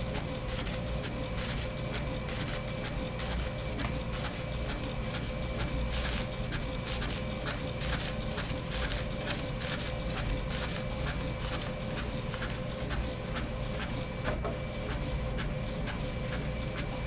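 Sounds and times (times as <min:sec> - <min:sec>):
inkjet printer printing: 0:00.0 - 0:17.0.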